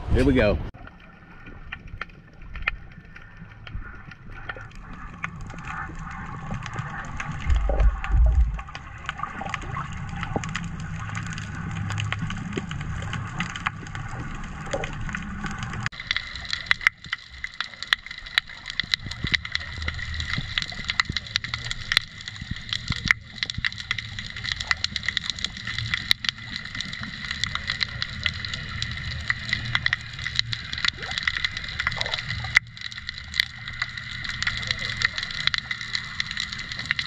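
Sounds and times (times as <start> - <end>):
low underwater rumble: 0.0 - 37.0
crackling clicks underwater: 0.8 - 37.0.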